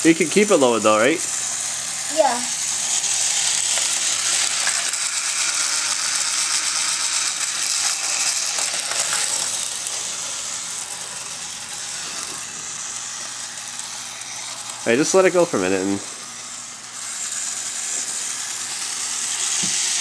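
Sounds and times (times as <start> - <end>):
toy train motor whirring: 0.0 - 20.0.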